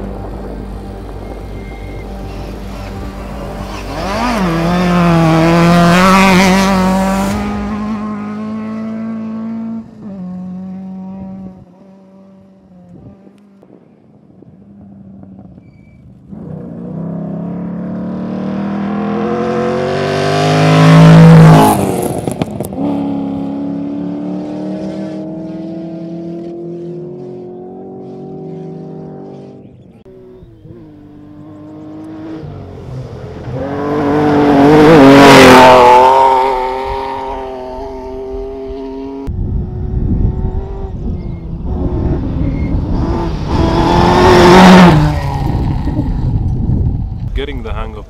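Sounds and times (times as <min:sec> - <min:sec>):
rally cars passing at speed: 0:00.0 - 0:13.6, 0:14.6 - 0:47.4.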